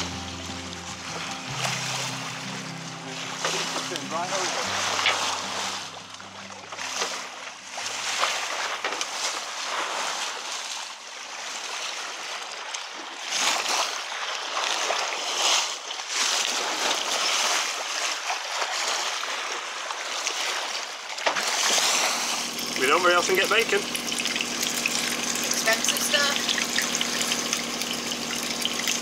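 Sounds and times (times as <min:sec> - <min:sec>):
water splashing along hull: 0:00.0 - 0:29.0.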